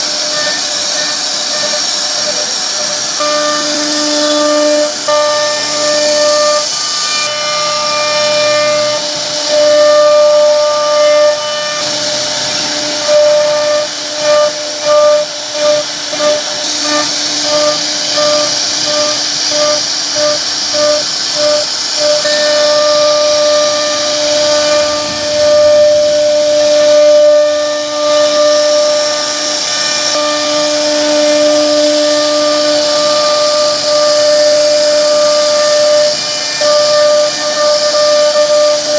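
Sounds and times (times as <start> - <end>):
bit cutting wood hiss: 0.0 - 38.9
router spindle whining: 0.0 - 38.9.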